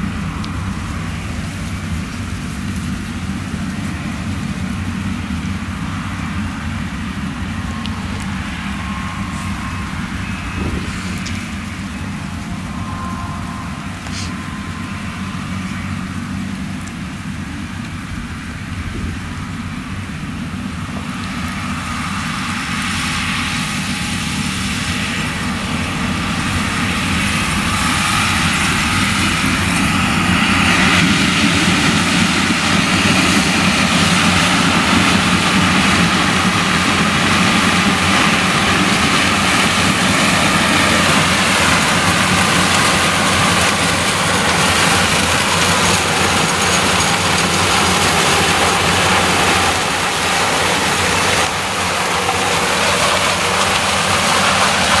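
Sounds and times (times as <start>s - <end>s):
combine harvester working: 0.0s - 55.0s.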